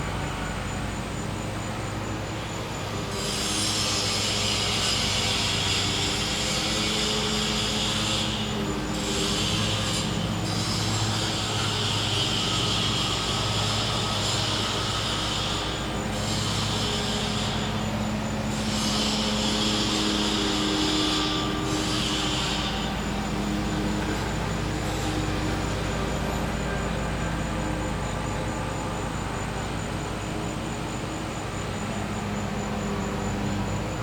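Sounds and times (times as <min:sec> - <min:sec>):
generator humming: 0:00.0 - 0:34.0
loud high-pitched buzz: 0:00.1 - 0:34.0.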